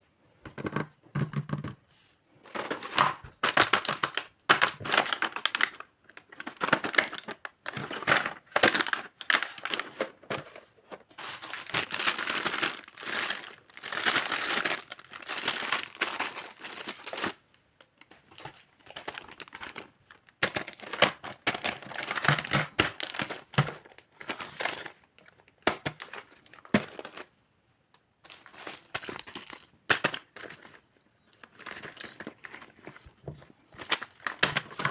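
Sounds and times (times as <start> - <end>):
plastic packaging crinkling and tearing: 2.5 - 10.4, 11.0 - 27.3, 28.2 - 34.9.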